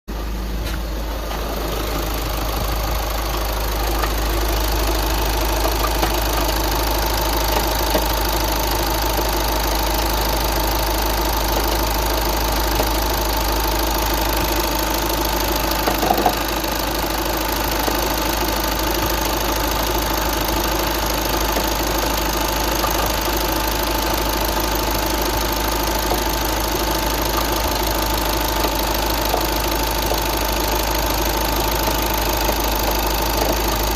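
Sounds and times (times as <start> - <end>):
car engine running: 0.1 - 33.9
engine knocking: 1.2 - 33.9.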